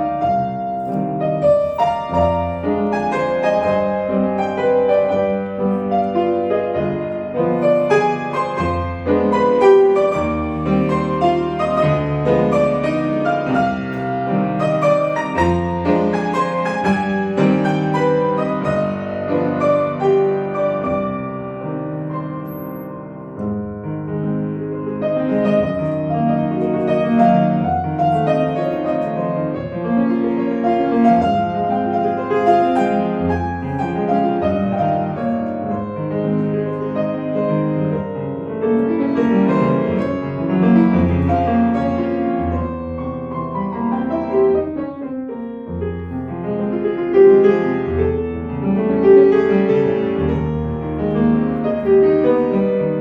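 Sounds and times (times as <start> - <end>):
solo classical piano: 0.0 - 53.0.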